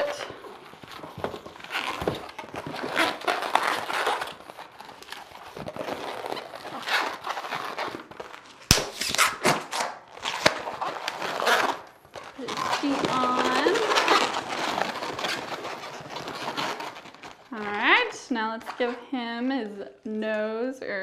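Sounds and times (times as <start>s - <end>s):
balloons squeaking and rubbing: 0.0s - 19.5s.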